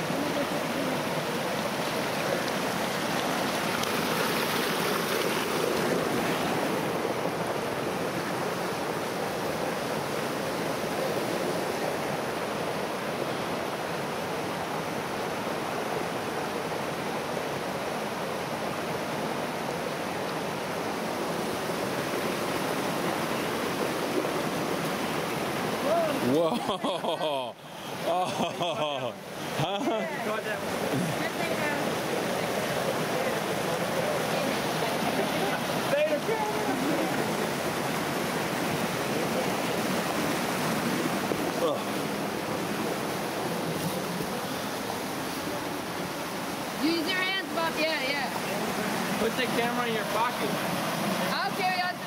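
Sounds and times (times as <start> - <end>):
water flowing over stones: 0.0 - 52.0.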